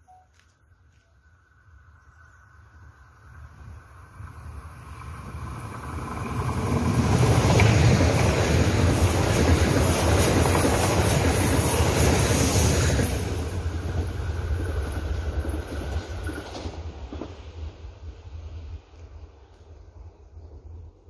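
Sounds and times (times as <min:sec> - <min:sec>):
train wheels rumbling on rails: 0:03.2 - 0:21.0.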